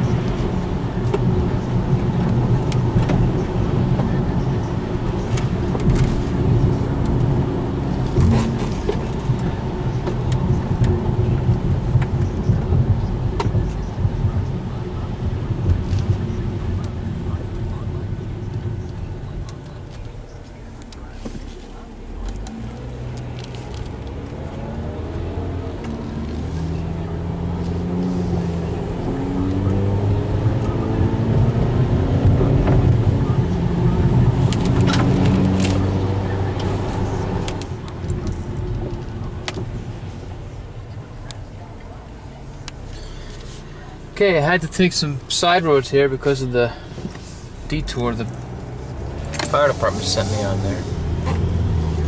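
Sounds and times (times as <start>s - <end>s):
engine and road rumble: 0.0s - 52.0s.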